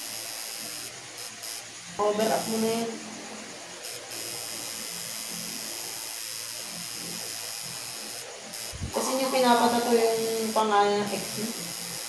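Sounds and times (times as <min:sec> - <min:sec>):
tattoo machine buzzing: 0:00.0 - 0:12.0.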